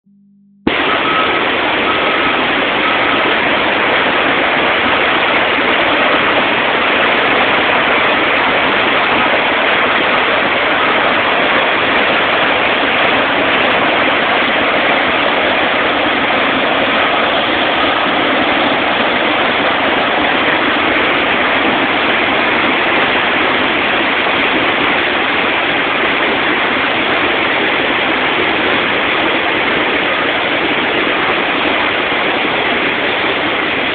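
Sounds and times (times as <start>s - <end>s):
floodwater rushing: 0.7s - 33.9s.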